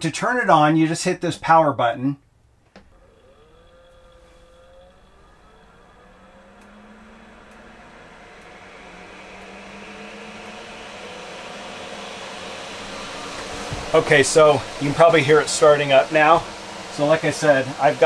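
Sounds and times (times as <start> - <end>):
air conditioner fans whirring: 2.3 - 18.0.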